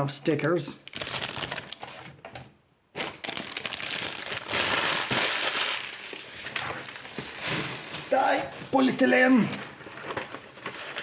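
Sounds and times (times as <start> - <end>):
plastic bag crinkling: 0.8 - 2.1, 3.0 - 11.0.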